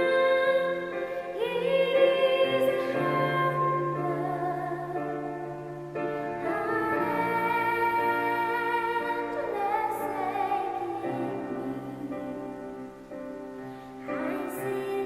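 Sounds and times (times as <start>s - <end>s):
slow classical-style ballad: 0.0s - 15.0s.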